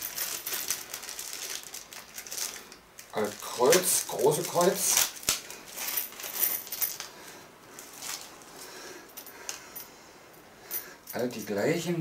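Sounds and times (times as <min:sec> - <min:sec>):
small screws clicking and rustling: 0:00.0 - 0:09.9.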